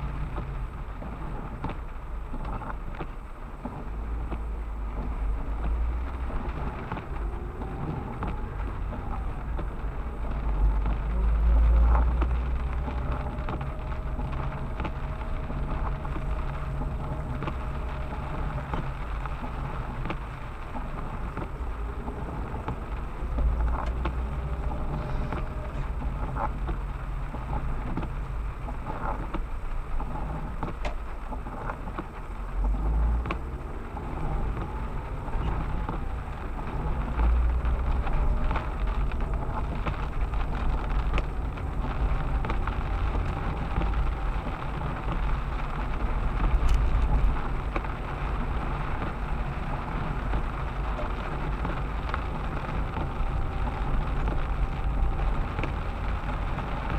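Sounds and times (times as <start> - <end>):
faint passing traffic: 0.0 - 56.9
rain hissing: 0.0 - 56.9.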